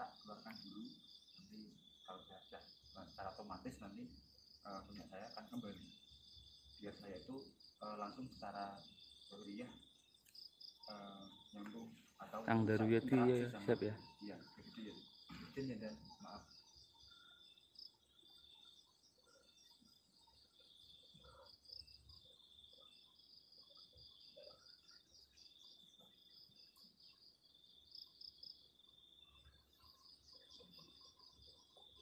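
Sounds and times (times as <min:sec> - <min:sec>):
night insects chirring: 0:00.0 - 0:32.0.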